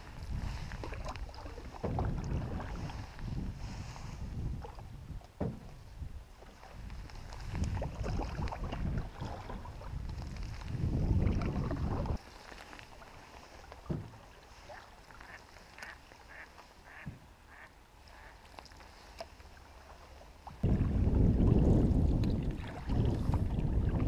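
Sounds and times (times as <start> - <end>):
wind rumbling on microphone: 0.0 - 15.7, 19.9 - 24.0
canoe paddling: 0.0 - 24.0
water sounds: 0.0 - 24.0.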